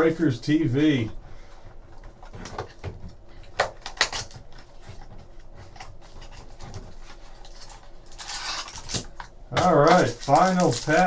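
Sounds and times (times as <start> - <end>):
card wrappers rustling: 0.5 - 11.0.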